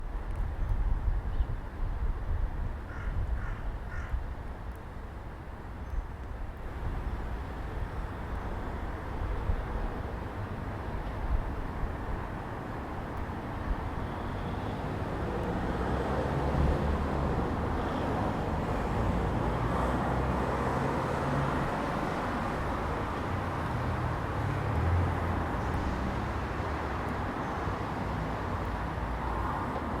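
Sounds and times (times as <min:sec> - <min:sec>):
low rumble of road traffic: 0:00.0 - 0:30.0.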